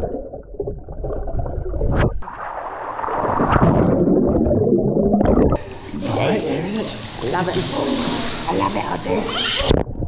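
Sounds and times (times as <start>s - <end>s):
pool water splashing and gurgling: 0.0s - 10.0s.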